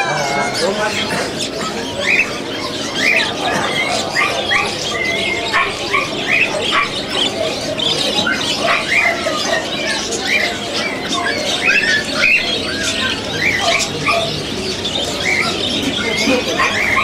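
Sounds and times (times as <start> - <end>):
caged birds chirping: 0.0 - 17.0
steady background noise: 0.0 - 17.0.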